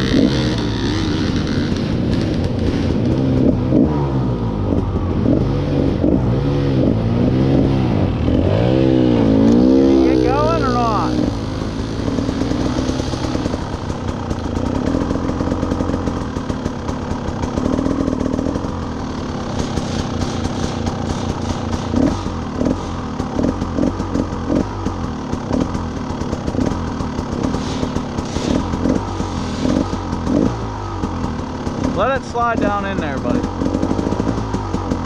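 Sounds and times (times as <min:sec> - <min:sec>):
dirt bike engine: 0:00.0 - 0:35.0.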